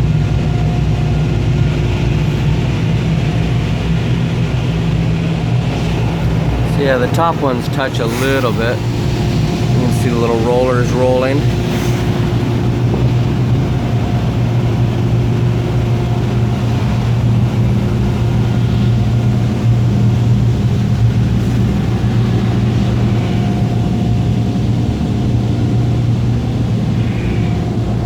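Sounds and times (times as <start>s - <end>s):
air dryers blowing: 0.0s - 28.0s
faint steady tones: 0.2s - 28.0s.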